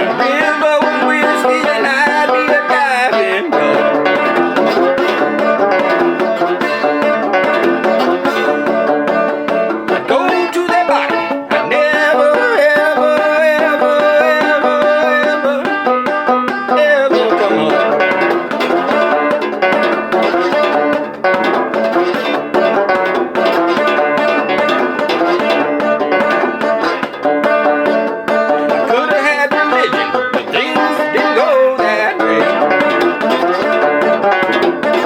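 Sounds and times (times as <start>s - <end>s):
twangy banjo-guitar with slide: 0.0s - 35.0s.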